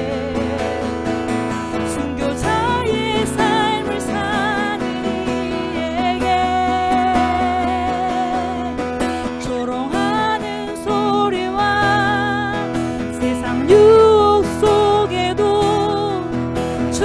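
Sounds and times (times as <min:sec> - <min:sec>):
strummed acoustic guitar: 0:00.0 - 0:17.0
woman singing: 0:00.0 - 0:17.0.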